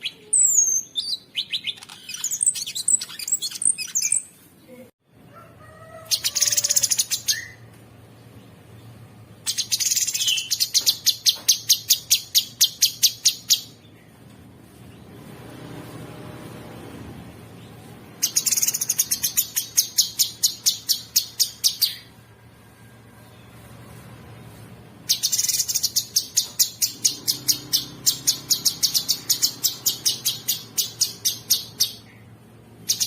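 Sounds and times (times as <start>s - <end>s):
songbird chirping and trilling: 0.0s - 15.3s, 17.4s - 33.0s.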